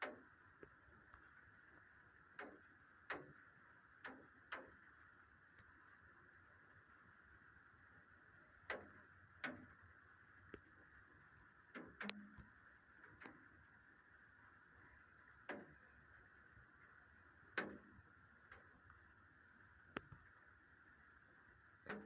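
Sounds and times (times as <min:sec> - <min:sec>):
faint rain hiss: 0:00.0 - 0:22.0.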